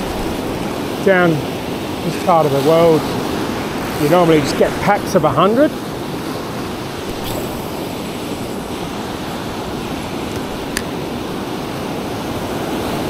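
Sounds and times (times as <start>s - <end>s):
ocean surf breaking over sand: 0.0s - 13.0s.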